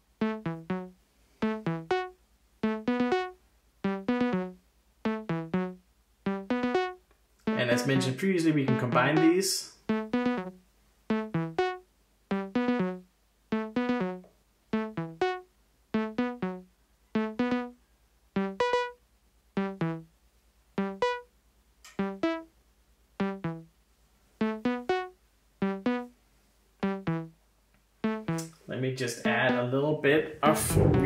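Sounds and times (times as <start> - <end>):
synthesizer plucked notes: 0.0 - 20.2, 20.8 - 22.6, 23.2 - 23.8, 24.4 - 26.2, 26.8 - 27.4, 28.0 - 28.6, 29.2 - 29.8, 30.4 - 31.0.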